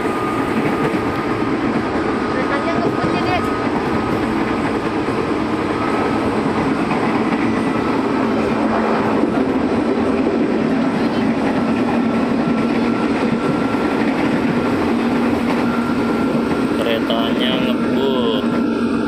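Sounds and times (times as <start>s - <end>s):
train carriage running noise: 0.0s - 19.0s.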